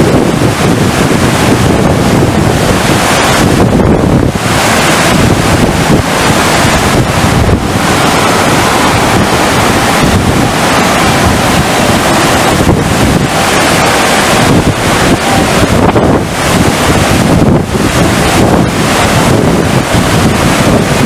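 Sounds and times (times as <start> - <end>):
water rushing loudly: 0.0 - 21.0
wind buffeting microphone: 0.0 - 21.0.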